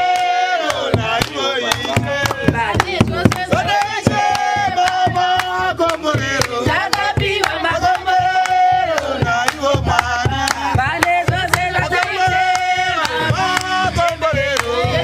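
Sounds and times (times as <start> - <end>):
group singing: 0.0 - 15.0
hand clapping: 0.1 - 15.0
frame drum beats: 0.8 - 15.0.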